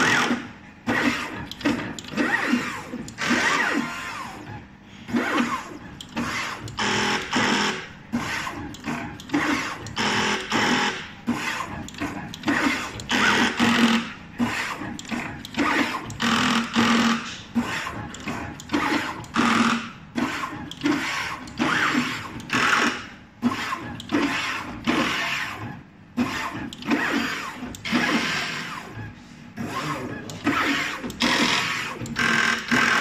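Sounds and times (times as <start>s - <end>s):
machine motors whirring: 0.0s - 33.0s.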